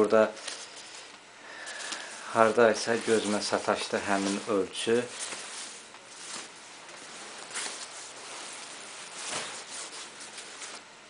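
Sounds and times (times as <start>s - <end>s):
padded jacket rustling: 0.0s - 10.9s.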